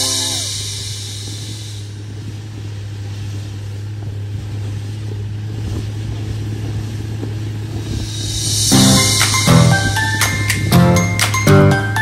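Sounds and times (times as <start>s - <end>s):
moving vehicle drone: 0.0s - 12.0s.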